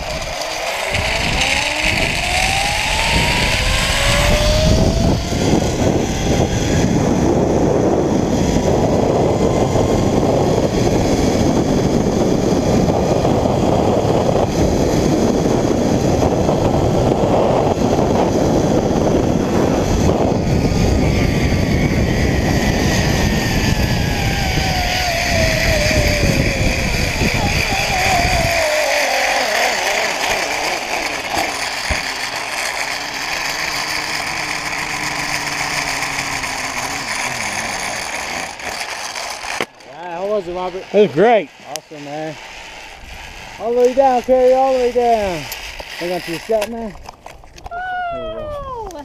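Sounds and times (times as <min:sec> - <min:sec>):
wind rushing on microphone: 0:00.0 - 0:38.6, 0:40.0 - 0:49.0
pulley wheels whining on cable: 0:00.0 - 0:49.0.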